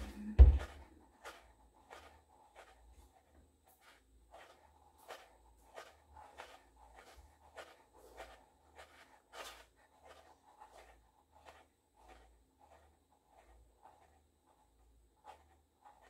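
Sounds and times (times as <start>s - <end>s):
foot rubbing against shoe: 0.0s - 16.0s.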